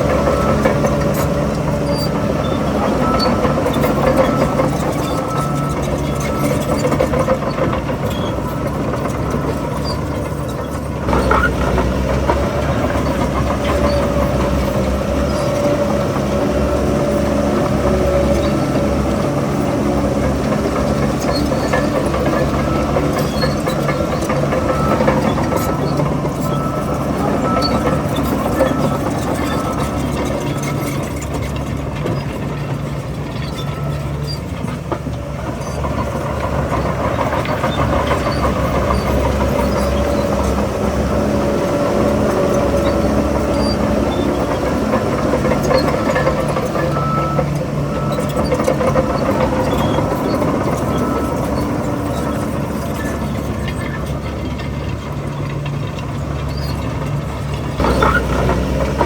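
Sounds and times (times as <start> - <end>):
heavy diesel bulldozer engine: 0.0 - 59.0.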